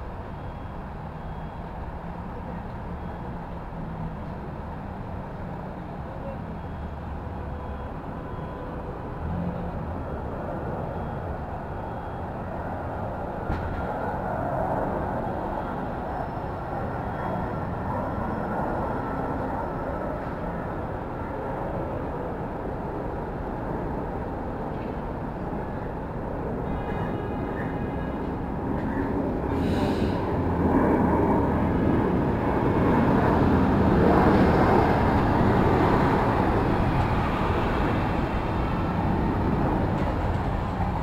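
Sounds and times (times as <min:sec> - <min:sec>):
street traffic passing: 0:00.0 - 0:41.0.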